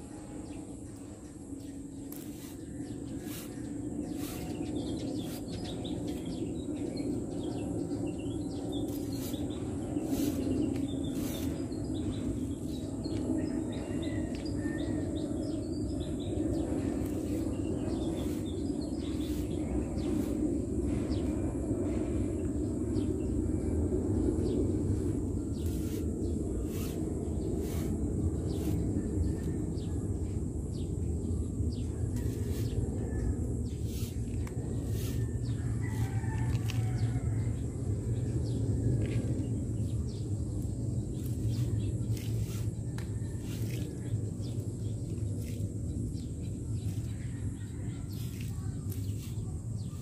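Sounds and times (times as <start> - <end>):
low rumble: 0.0 - 50.0.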